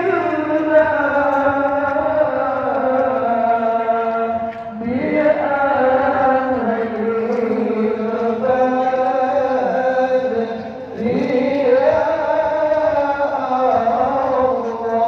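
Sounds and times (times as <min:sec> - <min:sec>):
devotional chanting: 0:00.0 - 0:15.0.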